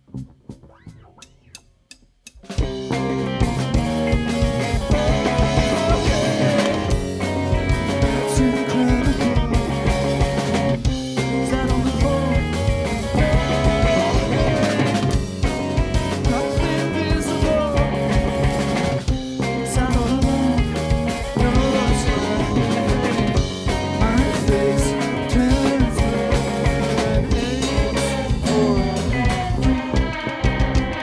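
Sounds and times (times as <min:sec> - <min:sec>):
pounding drum kit: 0:00.0 - 0:31.0
live rock band playing: 0:02.3 - 0:31.0.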